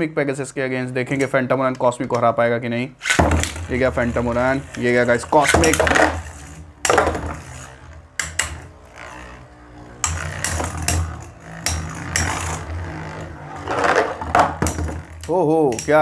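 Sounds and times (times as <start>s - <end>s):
spinning tops clashing clacks: 3.0s - 16.0s
spinning tops whirring: 3.0s - 16.0s.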